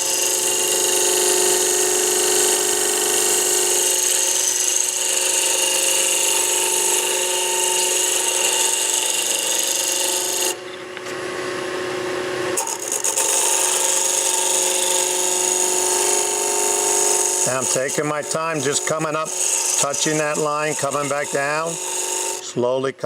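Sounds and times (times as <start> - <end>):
chisel cutting spinning wood: 0.0 - 11.6, 12.5 - 22.8
lathe motor hum: 0.0 - 22.5.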